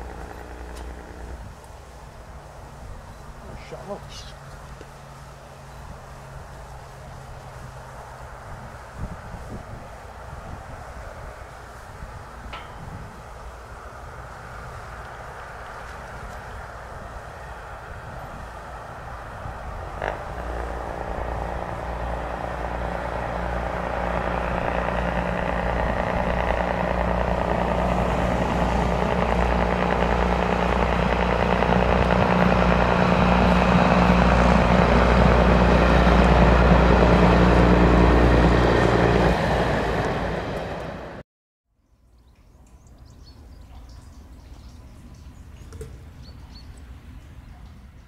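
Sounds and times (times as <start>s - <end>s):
diesel train passing: 0.0s - 41.2s
faint outdoor ambience: 0.0s - 41.2s, 41.8s - 48.0s.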